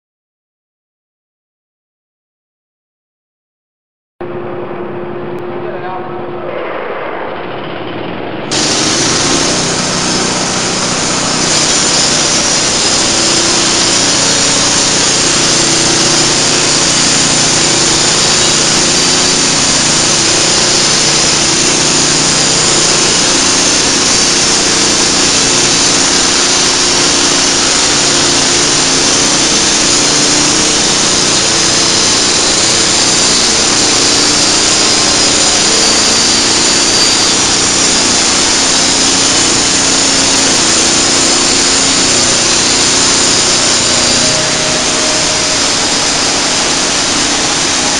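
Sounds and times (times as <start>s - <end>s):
band saw sawing through log: 8.5s - 47.9s.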